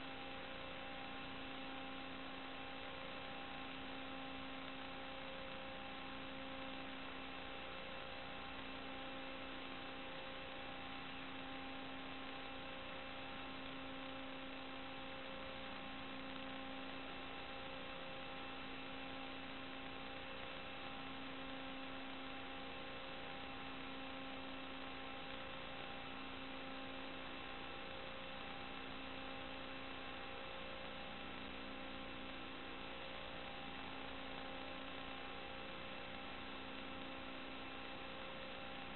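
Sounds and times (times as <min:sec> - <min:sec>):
electrical humming tones: 0:00.0 - 0:38.9
radio static hiss: 0:00.0 - 0:38.9.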